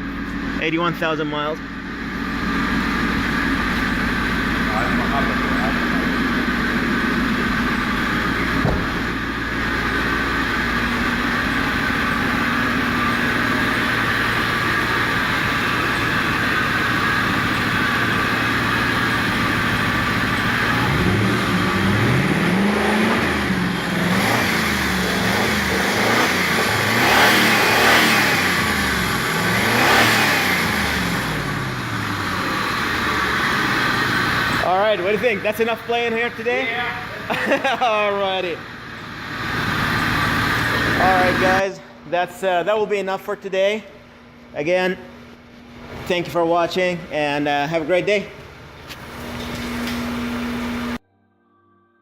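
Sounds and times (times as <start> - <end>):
car engine idling and revving: 0.0 - 41.7, 43.9 - 51.0.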